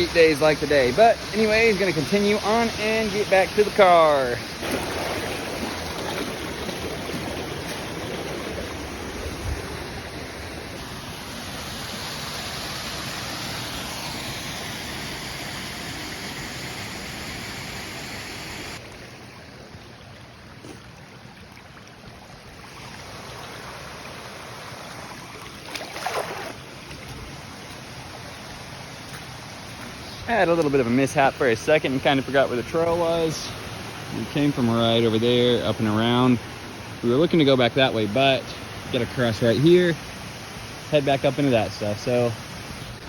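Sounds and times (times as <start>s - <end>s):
creek water rushing: 0.0s - 43.0s.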